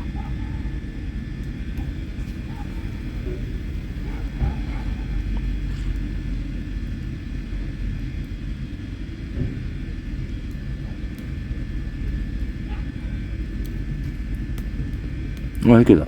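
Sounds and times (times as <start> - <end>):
faint crackles: 0.0 - 16.0
steady low rumble: 0.0 - 16.0.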